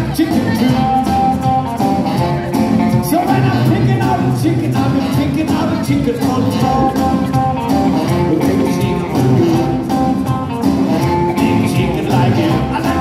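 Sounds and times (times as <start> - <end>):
electric guitar: 0.0 - 13.0
rockabilly band playing live: 0.0 - 13.0.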